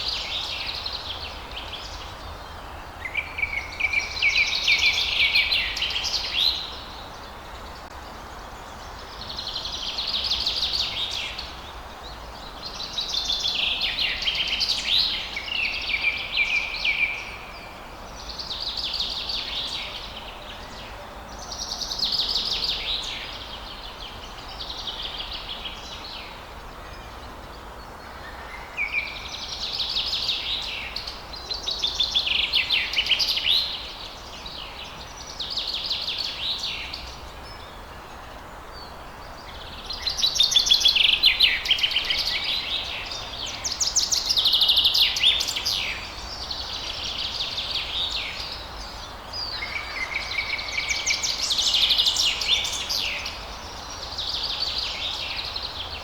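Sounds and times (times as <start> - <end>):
songbirds trilling: 0.0 - 56.0
steady background hiss: 0.0 - 56.0.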